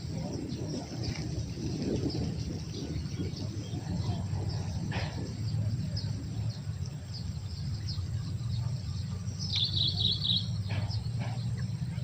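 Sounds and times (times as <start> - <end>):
bird chirping trill: 0.0 - 12.0
steady low rumble: 0.0 - 12.0.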